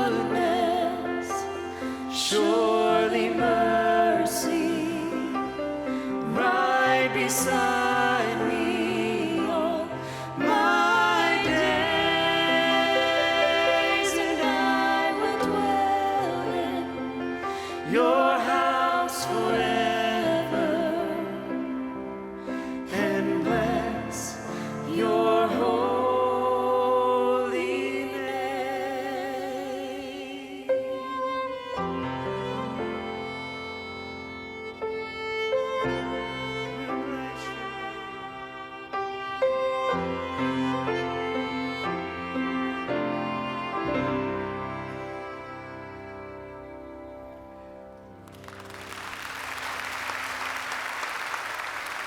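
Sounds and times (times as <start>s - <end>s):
choir singing: 0.0s - 33.4s, 34.9s - 46.6s.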